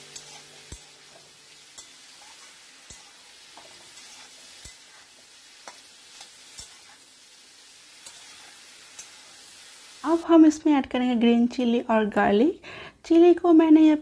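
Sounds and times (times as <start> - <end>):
vegetables sizzling in oil: 0.0 - 12.1.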